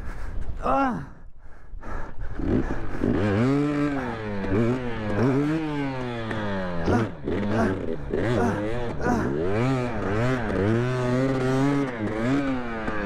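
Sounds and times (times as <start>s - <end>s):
dirt bike engine revving: 2.3s - 13.0s.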